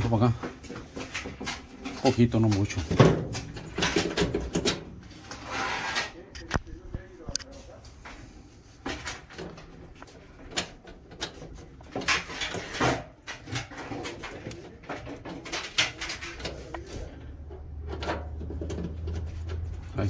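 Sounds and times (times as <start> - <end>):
scraping and rubbing handling: 0.0 - 20.0.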